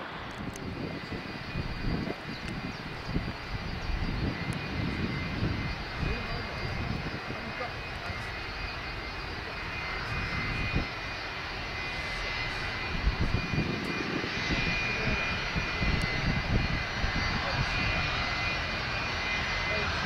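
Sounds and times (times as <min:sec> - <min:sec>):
jet engines whining and rumbling: 0:00.0 - 0:20.0.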